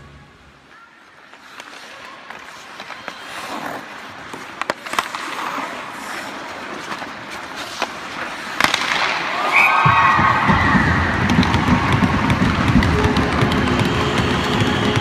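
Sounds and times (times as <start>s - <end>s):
skates scraping ice: 0.0s - 15.0s
hockey sticks and puck clacking: 1.0s - 15.0s.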